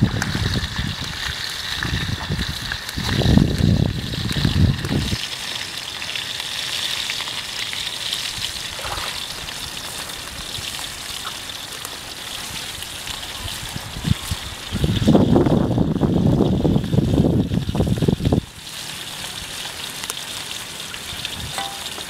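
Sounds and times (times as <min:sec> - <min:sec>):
water splashing in a pond: 0:00.0 - 0:22.0.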